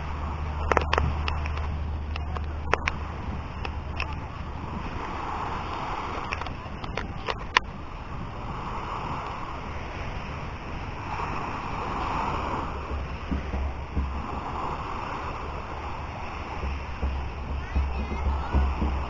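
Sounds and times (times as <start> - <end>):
sea water washing in: 0.0 - 19.0
wind buffeting microphone: 0.0 - 19.0.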